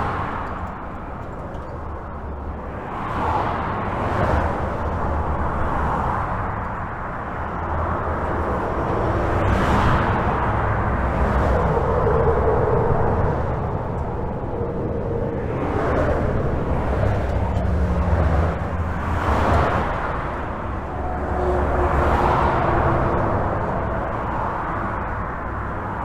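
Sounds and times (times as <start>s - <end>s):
highway traffic rumble: 0.0s - 26.0s
vehicle whine: 0.0s - 26.0s.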